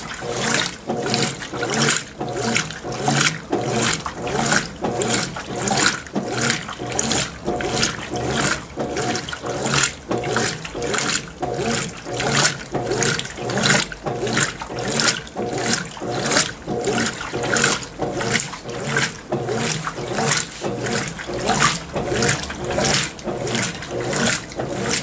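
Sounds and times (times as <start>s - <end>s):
washing machine swishing and sloshing: 0.0s - 25.0s.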